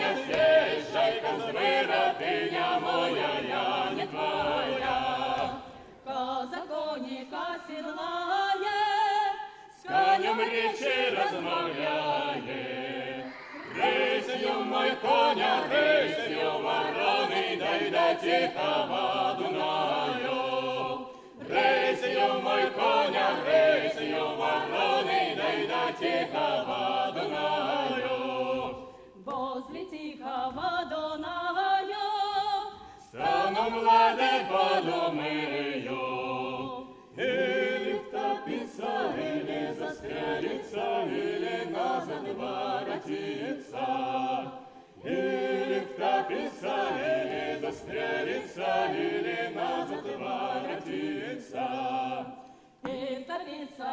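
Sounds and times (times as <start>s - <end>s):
mixed choir singing unaccompanied: 0.0s - 53.9s.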